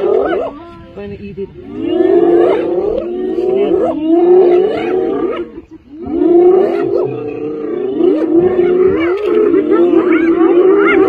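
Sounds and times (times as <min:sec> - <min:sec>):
hyenas crying and growling: 0:00.0 - 0:00.9, 0:01.6 - 0:11.0.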